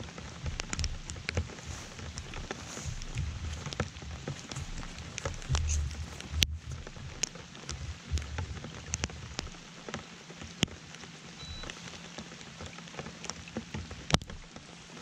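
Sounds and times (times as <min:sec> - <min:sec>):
faint steady hiss: 0:00.0 - 0:15.0
raindrops ticking: 0:00.0 - 0:15.0.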